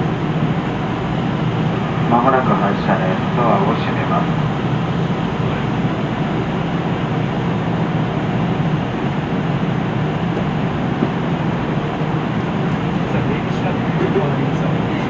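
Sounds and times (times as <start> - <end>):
diesel railcar engine idling: 0.0 - 15.0.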